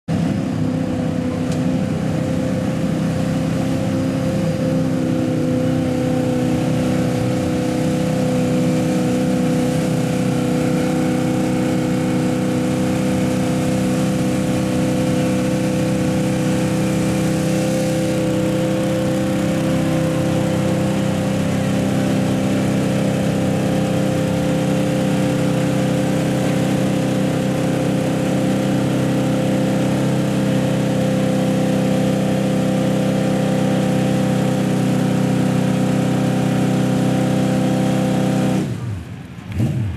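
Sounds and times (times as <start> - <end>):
truck engine at high revs: 0.0 - 39.9
tyres churning through mud: 0.1 - 39.9.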